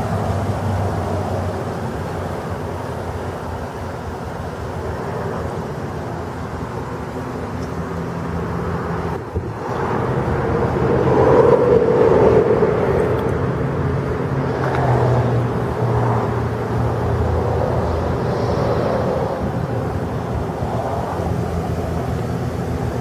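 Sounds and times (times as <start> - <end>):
outdoor noise: 0.0 - 23.0
vehicle engine humming: 0.0 - 23.0.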